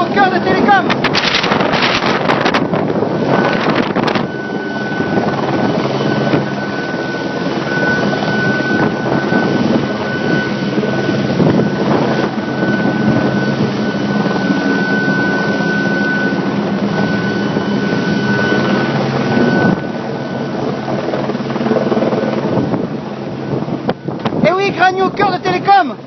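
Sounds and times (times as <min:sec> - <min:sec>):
helicopter rotor and engine noise: 0:00.0 - 0:26.0
high whine: 0:00.0 - 0:26.0.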